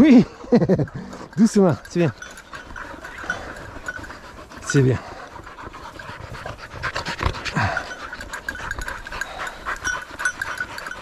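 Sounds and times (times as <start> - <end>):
dog panting: 0.3 - 11.0.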